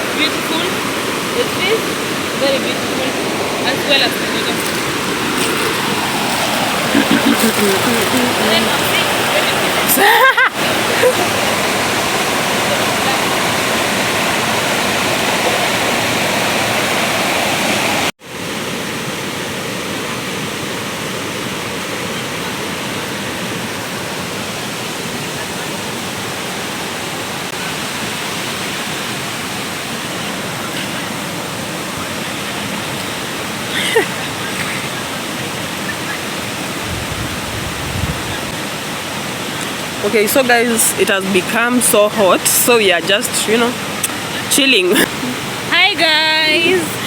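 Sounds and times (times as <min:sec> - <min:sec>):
small waterfall rushing: 0:00.0 - 0:47.0.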